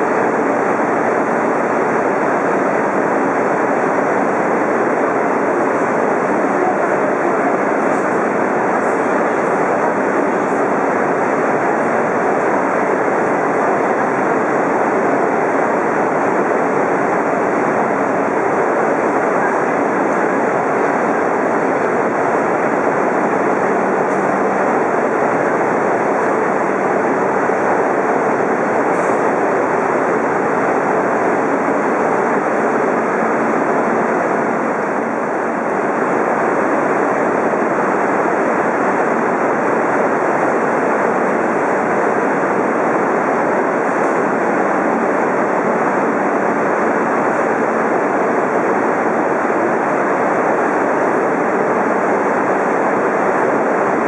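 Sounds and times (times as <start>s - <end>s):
loud steady rushing noise: 0.0s - 54.0s.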